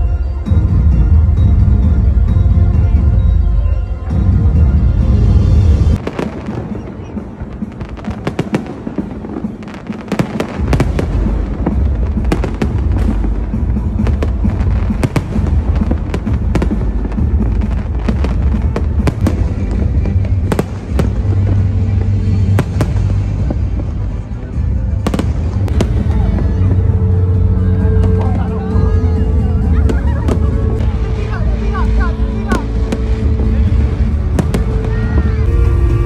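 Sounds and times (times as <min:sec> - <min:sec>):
fireworks bangs and crackles: 0:04.0 - 0:36.0.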